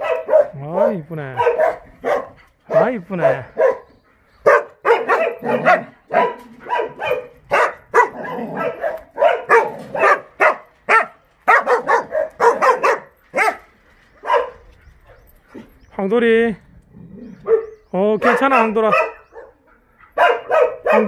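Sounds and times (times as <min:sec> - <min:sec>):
dogs barking: 0:00.0 - 0:15.8, 0:17.2 - 0:21.0.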